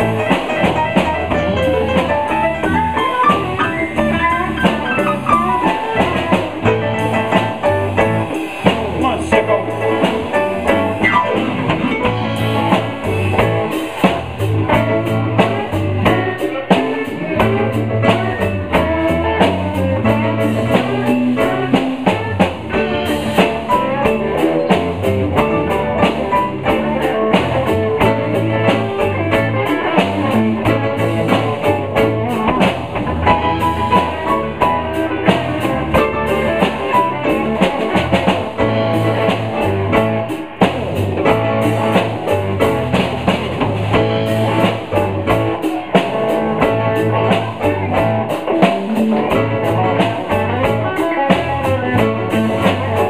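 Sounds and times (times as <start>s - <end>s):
blues band playing: 0.0s - 53.0s
drum kit: 0.0s - 53.0s
electric guitar: 0.0s - 53.0s.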